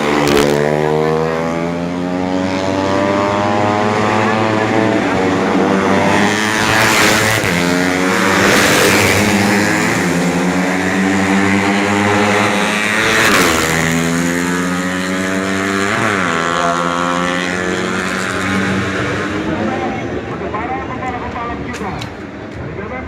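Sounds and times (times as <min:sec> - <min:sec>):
racing motorcycles at high revs: 0:00.0 - 0:20.0.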